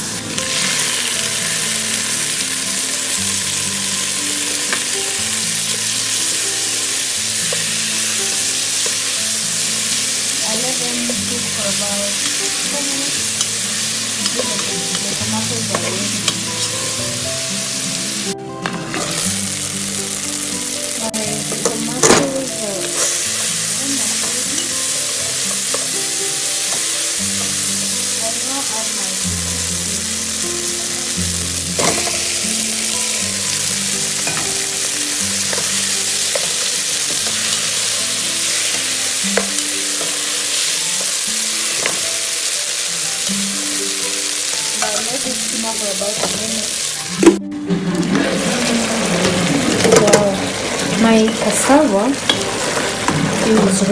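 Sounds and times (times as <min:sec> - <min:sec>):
cassava frying: 0:00.0 - 0:53.9
onions and tomatoes sizzling in oil: 0:00.0 - 0:53.9.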